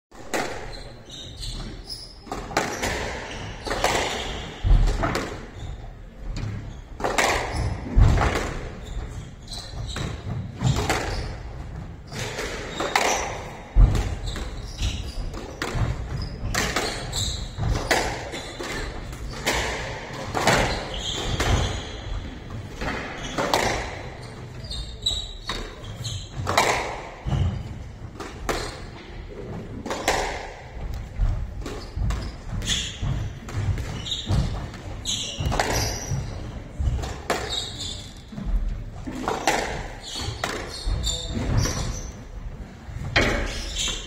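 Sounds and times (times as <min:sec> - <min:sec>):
squash ball hitting rackets and walls: 0:00.2 - 0:44.0.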